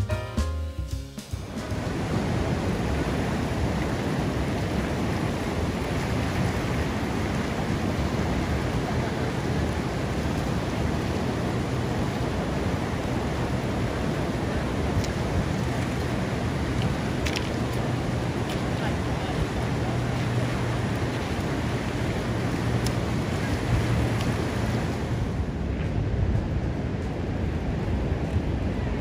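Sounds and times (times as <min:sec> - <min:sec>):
wind on microphone: 0:01.6 - 0:29.0.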